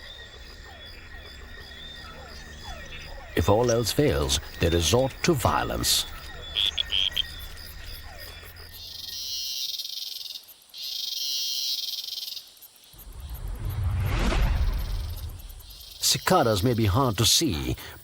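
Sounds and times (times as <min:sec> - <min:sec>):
frogs long buzzing calls: 0:00.0 - 0:16.0
frogs short high chirps: 0:00.0 - 0:16.3.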